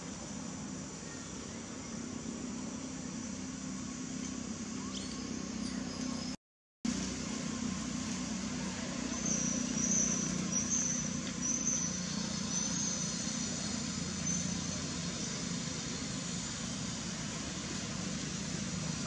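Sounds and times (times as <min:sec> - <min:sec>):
faint hiss: 0:00.0 - 0:06.2, 0:06.9 - 0:19.0.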